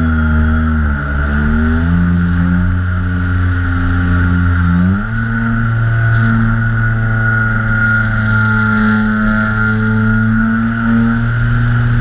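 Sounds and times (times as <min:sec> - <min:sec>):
electric motors and propellers whining: 0:00.0 - 0:12.0.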